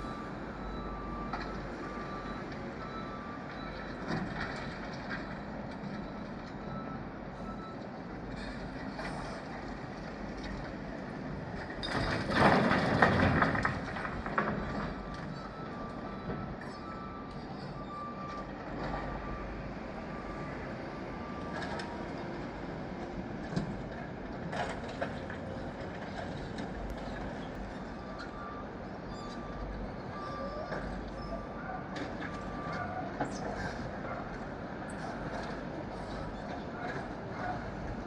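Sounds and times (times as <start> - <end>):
diesel construction machines running: 0.0 - 38.0.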